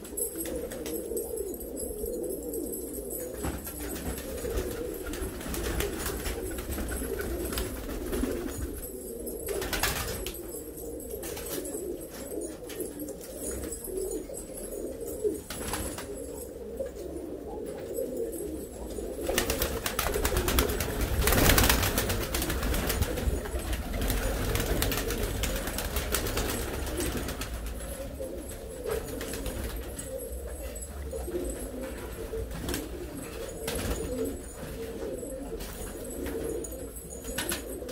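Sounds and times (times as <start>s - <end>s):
pigeons cooing: 0.0s - 37.9s.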